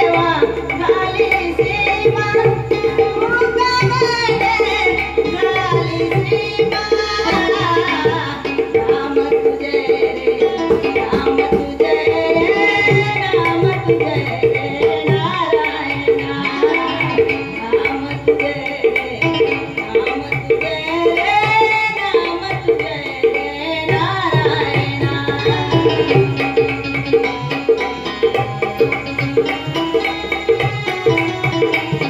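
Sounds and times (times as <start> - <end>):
tabla rhythm: 0.0 - 32.0.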